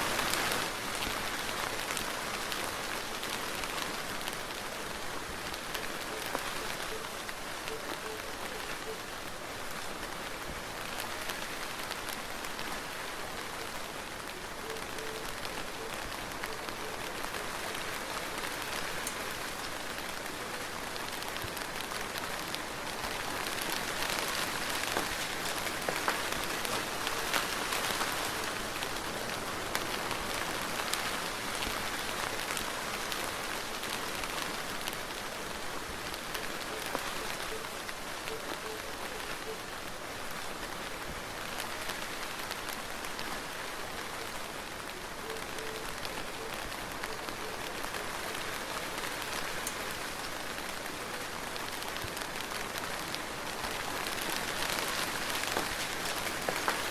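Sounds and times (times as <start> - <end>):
soft rain pattering: 0.0 - 56.9.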